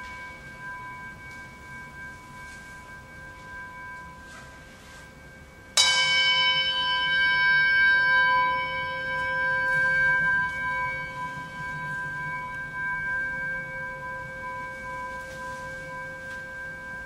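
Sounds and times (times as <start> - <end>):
faint ringing tone: 0.0 - 17.0
singing bowl ringing: 0.0 - 17.0.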